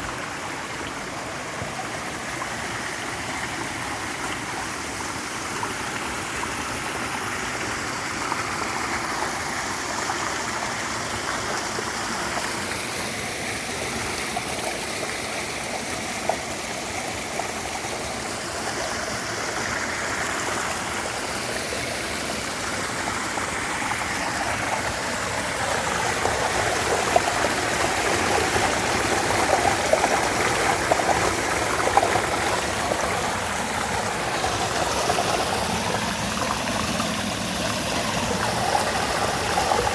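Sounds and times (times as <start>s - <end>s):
mountain stream babbling: 0.0s - 39.9s
water splashes: 7.6s - 39.9s.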